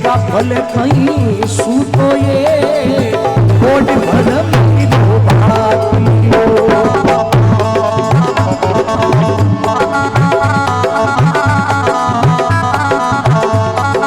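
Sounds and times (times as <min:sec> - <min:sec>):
hand drum rhythm: 0:00.0 - 0:14.0
sustained melodic instrument: 0:02.6 - 0:13.9.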